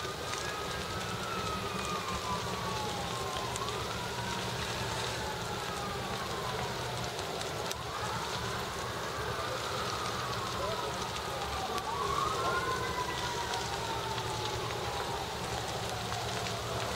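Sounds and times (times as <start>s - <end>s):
fire hoses and engines rushing: 0.0s - 16.9s
sirens wailing: 0.0s - 16.9s.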